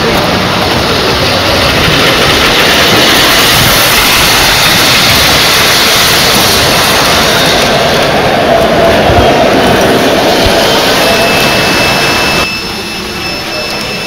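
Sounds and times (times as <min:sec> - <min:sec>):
model train rumbling past: 0:00.0 - 0:14.0.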